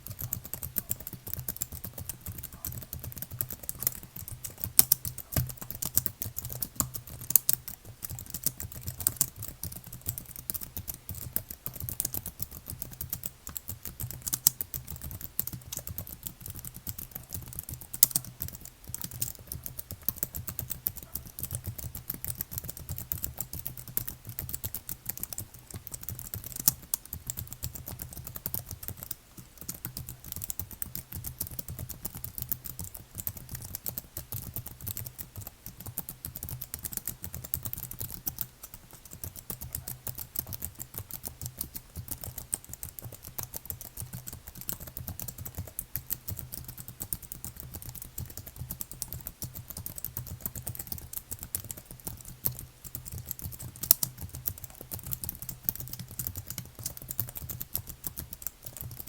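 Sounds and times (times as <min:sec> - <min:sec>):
typing on computer keyboard: 0:00.0 - 0:59.0.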